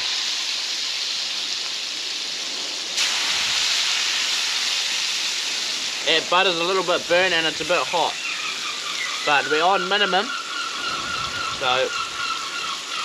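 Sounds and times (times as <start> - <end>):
fish sizzling in butter: 0.0 - 13.0.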